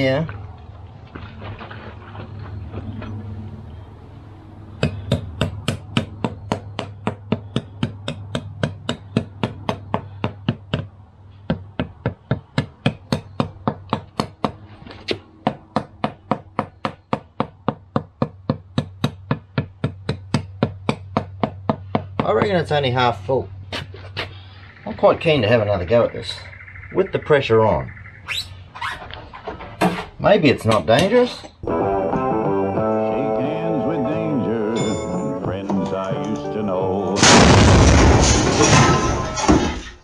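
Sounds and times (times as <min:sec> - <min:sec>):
low steady hum: 0:00.0 - 0:39.5.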